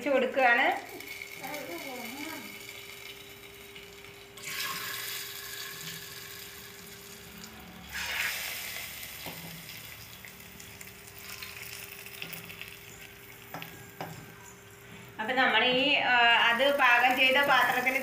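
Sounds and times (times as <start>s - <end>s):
hot oil sizzling: 0.1s - 18.0s.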